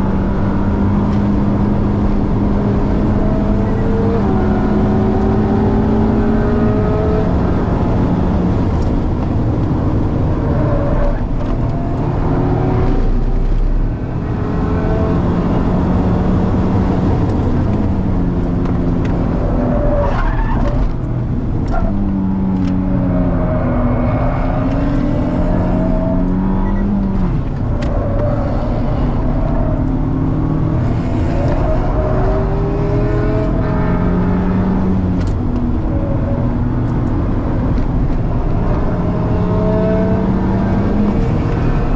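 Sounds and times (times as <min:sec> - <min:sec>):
car engine revving: 0:00.0 - 0:41.9
exhaust of car ahead: 0:00.0 - 0:41.9.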